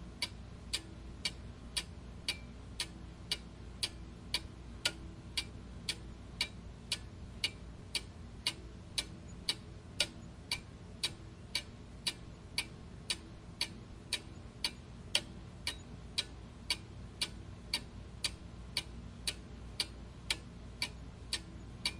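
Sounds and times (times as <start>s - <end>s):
clock ticking: 0.2s - 21.9s.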